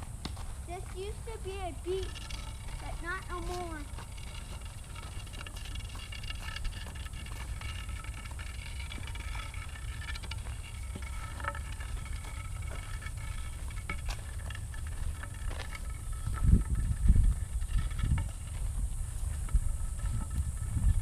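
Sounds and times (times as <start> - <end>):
small ticks and crackles: 0.0 - 21.0
wind rumble on microphone: 0.0 - 21.0.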